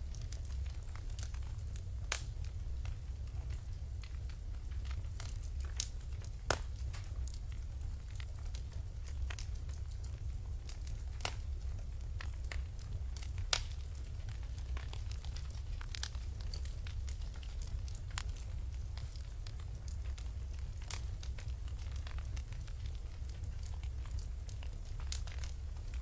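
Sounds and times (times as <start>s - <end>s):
fire low rumble: 0.0s - 26.0s
wood fire crackling and popping: 0.0s - 26.0s.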